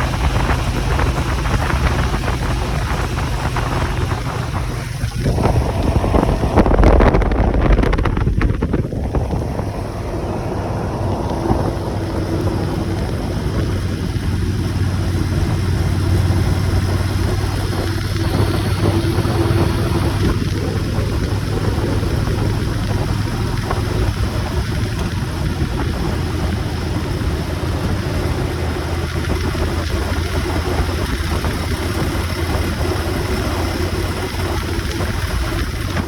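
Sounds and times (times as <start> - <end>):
motorcycle engine running: 0.0 - 36.0
wind on microphone: 0.0 - 36.0.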